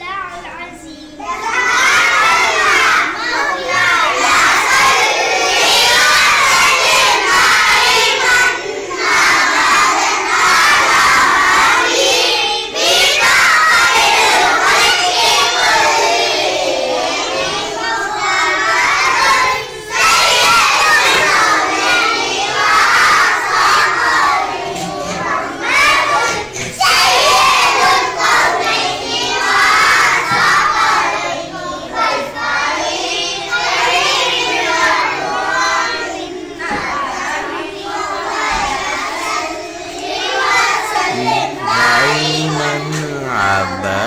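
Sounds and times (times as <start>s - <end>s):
children chanting together: 0.0s - 44.0s.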